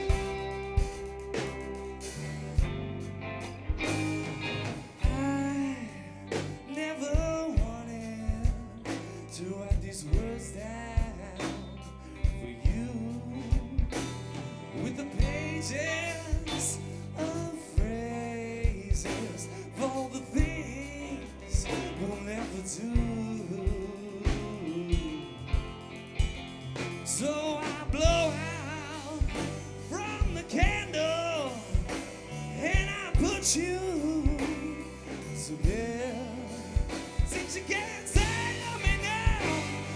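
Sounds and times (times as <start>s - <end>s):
bass guitar: 0.0s - 39.9s
drums with cymbal hits: 0.0s - 39.9s
electric guitars: 0.0s - 39.9s
lead guitar melody with vibrato: 0.0s - 39.9s.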